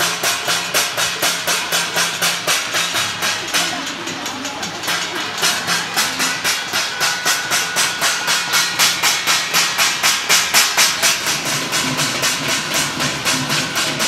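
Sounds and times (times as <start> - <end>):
background metallic banging: 0.0 - 14.0
steel plates clanging rhythmically: 0.0 - 14.0.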